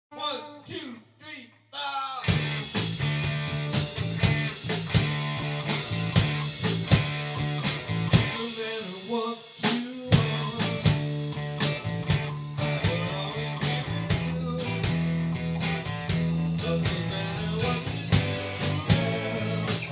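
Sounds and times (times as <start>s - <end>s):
live rock band playing: 2.2s - 19.9s.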